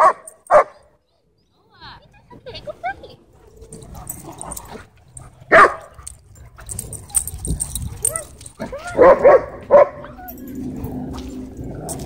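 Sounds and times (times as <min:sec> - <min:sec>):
dogs barking and yipping: 0:00.0 - 0:01.0, 0:03.0 - 0:12.0.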